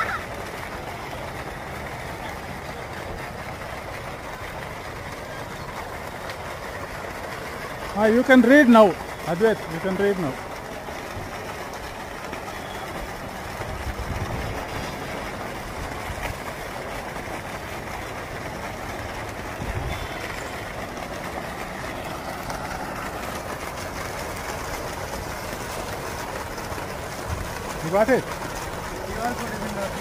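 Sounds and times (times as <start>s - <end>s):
fountain water splashing: 0.0s - 30.0s.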